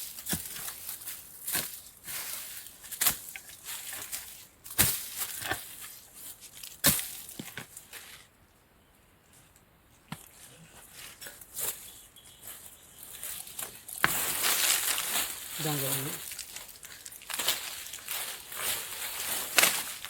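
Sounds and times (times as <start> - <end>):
plant stalks rustling and crackling: 0.0 - 8.3, 10.1 - 20.0
crunching and rustling: 0.0 - 8.4, 9.4 - 20.0.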